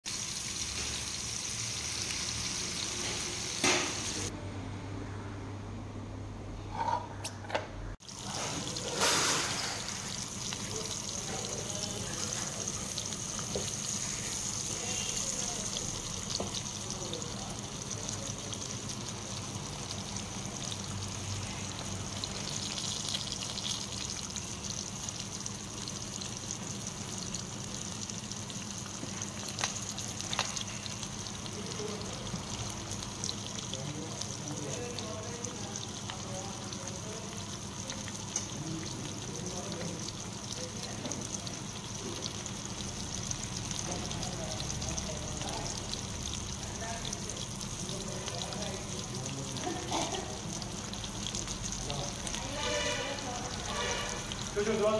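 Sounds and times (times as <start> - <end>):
fish sizzling in hot oil: 0.0 - 4.3, 8.0 - 54.9.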